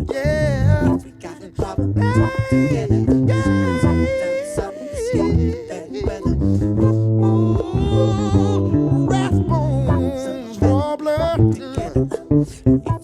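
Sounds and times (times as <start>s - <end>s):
electric bass line: 0.0s - 4.4s, 5.0s - 13.0s
funk music: 0.0s - 13.0s
person singing: 0.0s - 13.0s.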